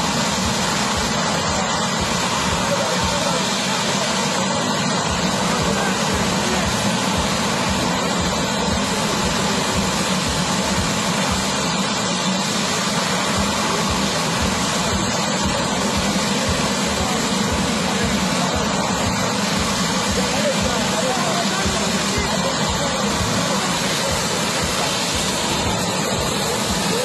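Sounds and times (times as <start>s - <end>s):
helicopter engine and rotor: 0.0s - 27.0s.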